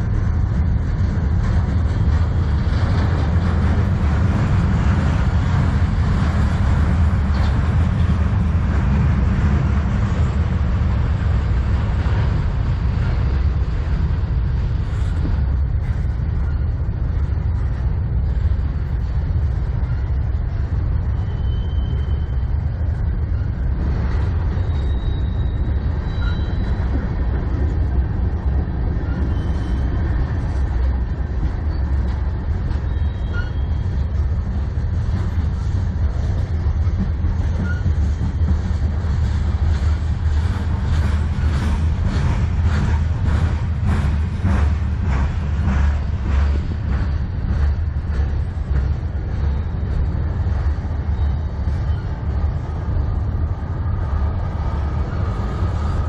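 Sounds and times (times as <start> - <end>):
freight cars rumbling on rail: 0.0 - 56.0.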